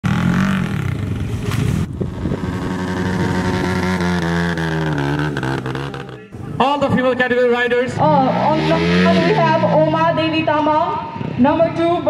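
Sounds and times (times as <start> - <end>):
dirt bike engine revving: 0.0 - 6.4, 7.8 - 11.4.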